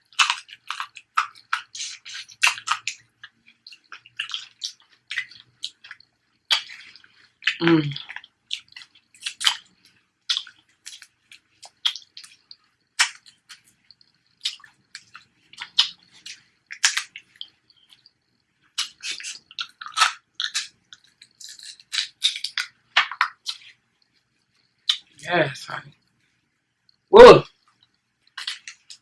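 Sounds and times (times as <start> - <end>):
wet chewing and lip smacking: 0.0 - 25.2, 26.8 - 29.0.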